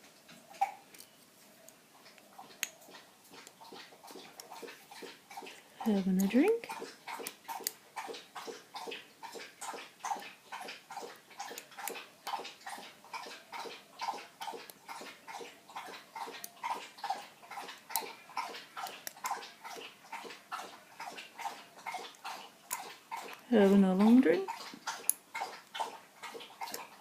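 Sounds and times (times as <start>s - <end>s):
dog lapping water: 0.1s - 0.9s, 1.8s - 27.0s.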